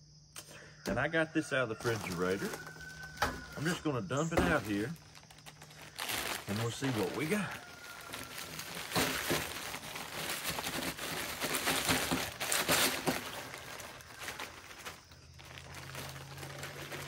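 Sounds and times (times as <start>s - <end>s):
plastic bag crinkling: 1.8s - 17.0s.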